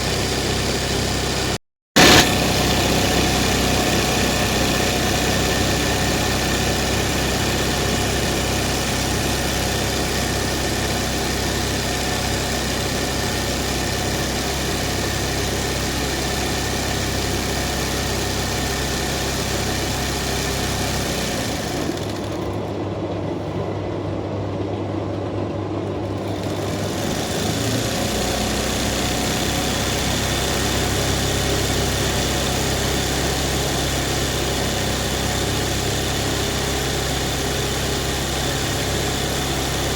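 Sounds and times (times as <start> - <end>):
embroidery machine whirring: 0.0 - 39.9.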